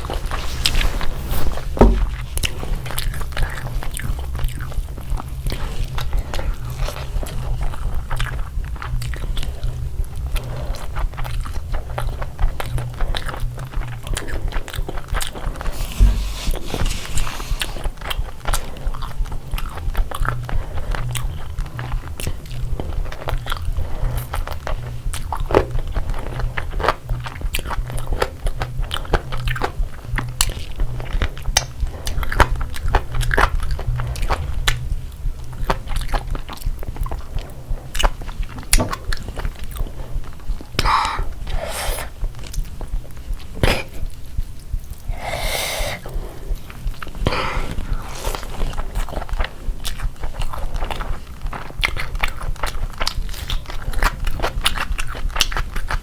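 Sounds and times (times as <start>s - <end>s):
chewing and crisp crunching: 0.0s - 56.0s.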